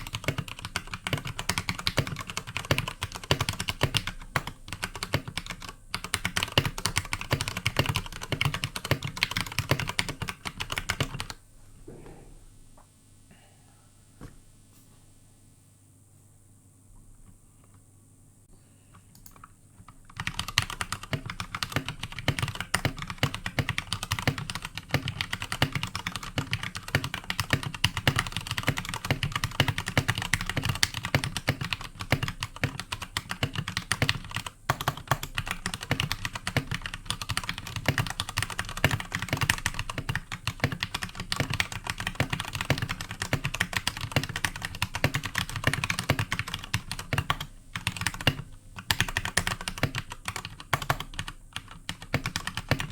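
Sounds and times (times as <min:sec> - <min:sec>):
mechanical keyboard typing: 0:00.0 - 0:11.4, 0:19.1 - 0:52.9.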